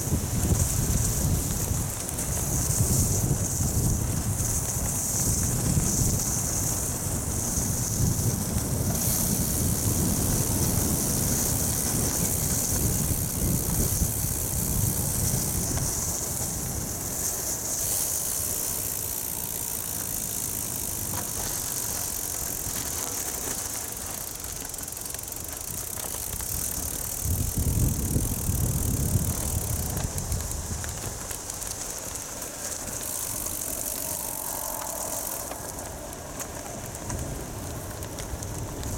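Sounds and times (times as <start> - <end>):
wind buffeting microphone: 0.0 - 23.1, 25.5 - 38.9
bicycle tyres rolling on gravel: 0.0 - 38.9.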